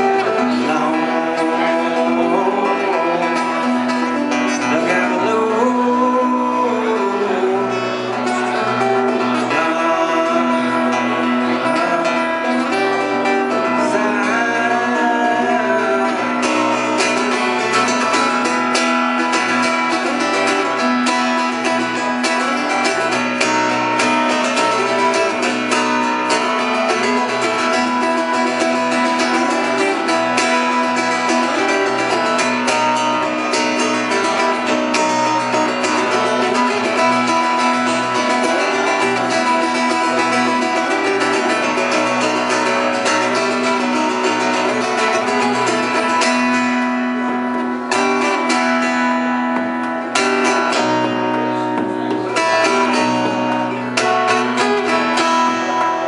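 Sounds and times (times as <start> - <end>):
bass guitar plucked: 0.0 - 56.0
guitar picking notes: 0.0 - 56.0.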